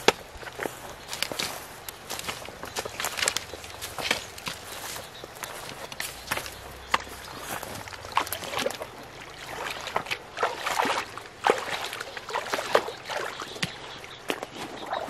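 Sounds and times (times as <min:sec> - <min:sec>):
feet splashing through muddy water: 0:00.0 - 0:15.0.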